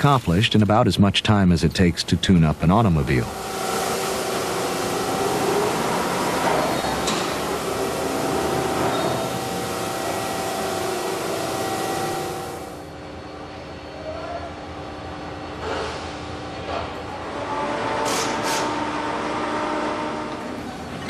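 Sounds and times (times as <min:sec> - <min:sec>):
heavy machinery running: 0:00.0 - 0:13.5, 0:15.6 - 0:21.0
steady hum tones: 0:00.0 - 0:21.0.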